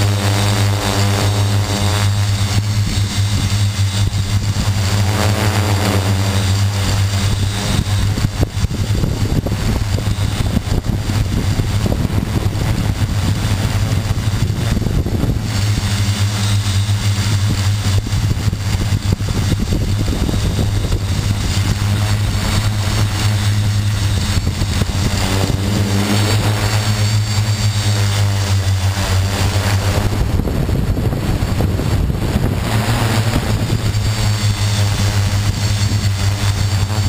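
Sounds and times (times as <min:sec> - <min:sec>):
quadcopter motors and propellers humming: 0:00.0 - 0:37.0.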